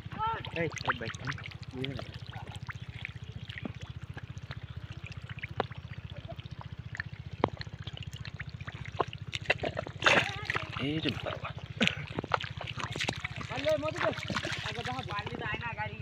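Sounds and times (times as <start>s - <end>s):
low pulsing throb: 0.0s - 16.0s
water trickling: 0.0s - 16.0s
small ticks and drips: 0.3s - 15.7s.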